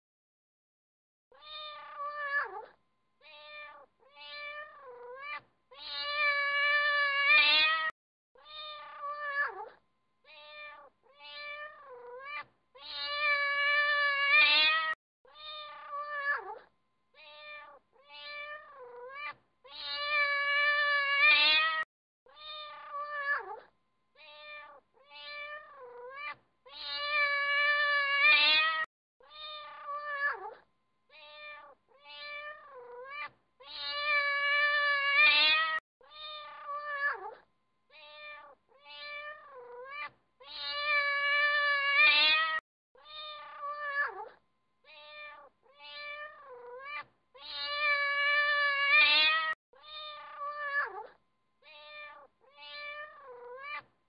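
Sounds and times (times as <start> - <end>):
cat meowing: 1.4 - 53.9.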